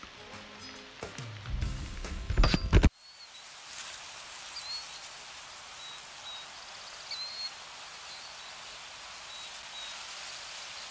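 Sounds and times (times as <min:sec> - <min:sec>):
rain hissing: 0:00.0 - 0:10.9.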